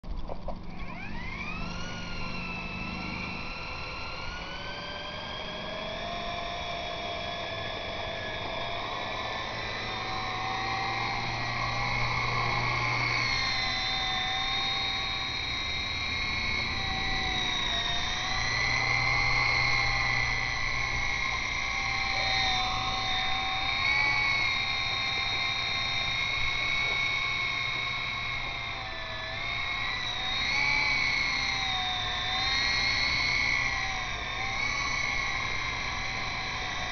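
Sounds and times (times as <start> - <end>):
rc helicopter rotors whining: 0.0 - 36.9.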